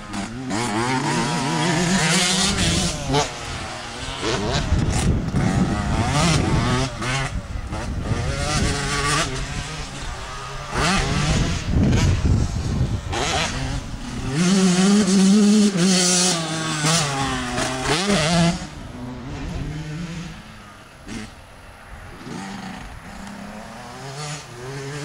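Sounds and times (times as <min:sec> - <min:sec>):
motocross bike engine revving: 0:00.0 - 0:25.0.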